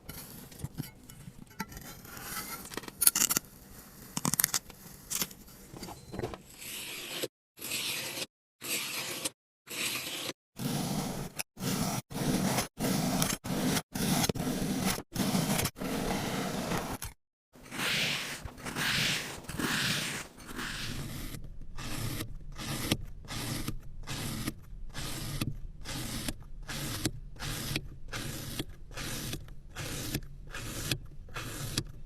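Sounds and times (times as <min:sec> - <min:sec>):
rubbing and scraping strokes: 0:00.0 - 0:32.0.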